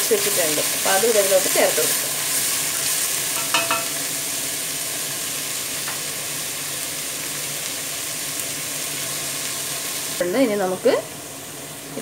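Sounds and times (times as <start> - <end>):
food frying hiss: 0.0 - 12.0.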